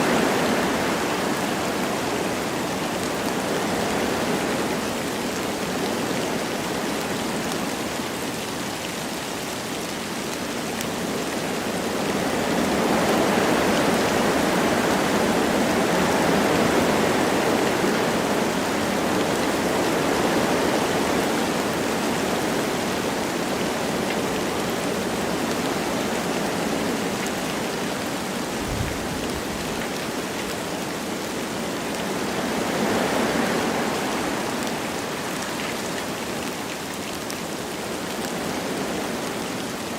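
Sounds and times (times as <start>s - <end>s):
light rain falling: 0.0s - 39.9s
wind through trees: 0.0s - 39.9s.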